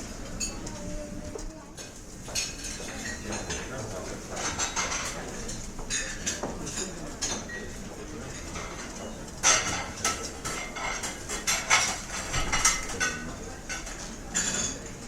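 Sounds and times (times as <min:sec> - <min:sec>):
murmur of diners: 0:00.0 - 0:15.0
cutlery and dishes clinking: 0:01.8 - 0:15.0.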